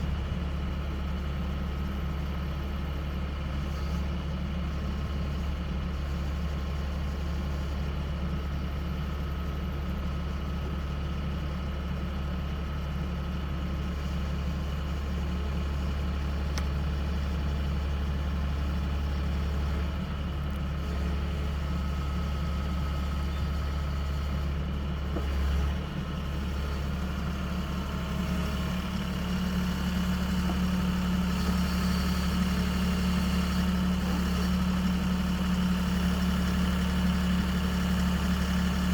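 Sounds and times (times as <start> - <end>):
backhoe engine droning: 0.0 - 38.9.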